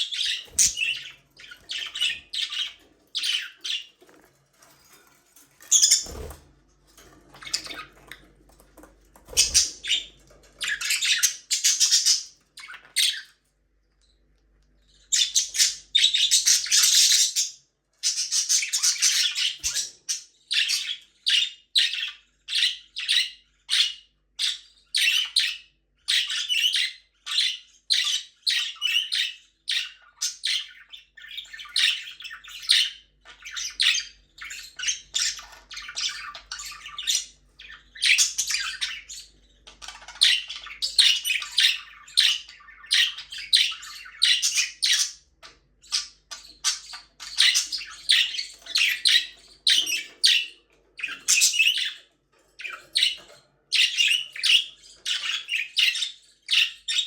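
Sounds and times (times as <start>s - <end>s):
budgerigars chirping: 0.0s - 4.2s, 5.6s - 6.4s, 9.2s - 13.4s, 15.0s - 57.0s.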